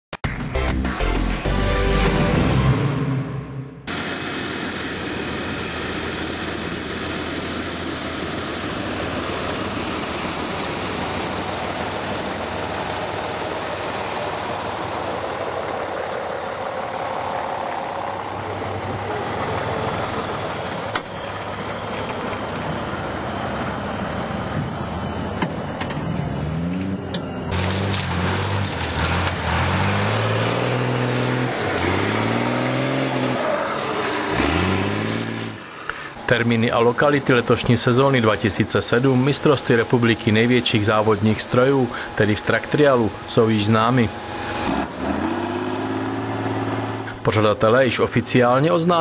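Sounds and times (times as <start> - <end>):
truck engine running: 0.6 - 49.0.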